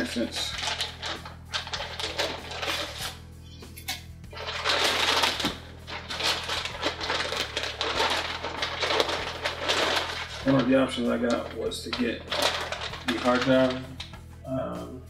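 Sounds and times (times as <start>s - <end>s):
background music: 0.0s - 15.0s
rustling: 0.1s - 3.2s, 4.3s - 14.1s.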